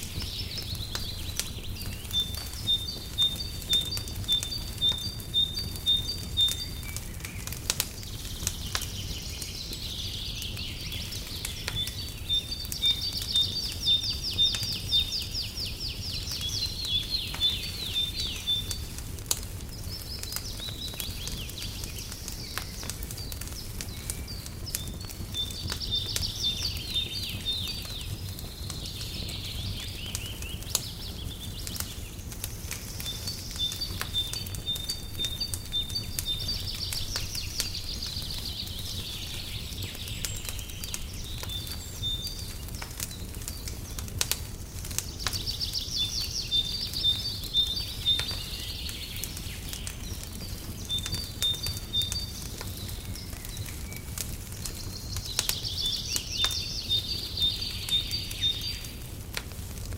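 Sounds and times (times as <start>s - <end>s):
songbirds chirping and trilling: 0.0s - 59.9s
wood fire crackling: 0.0s - 59.9s.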